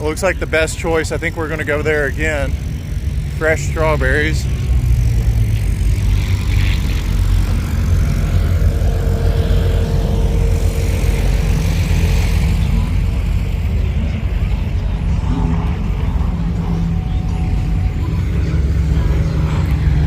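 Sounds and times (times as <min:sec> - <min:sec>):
aircraft engine drone overhead: 0:00.0 - 0:20.0.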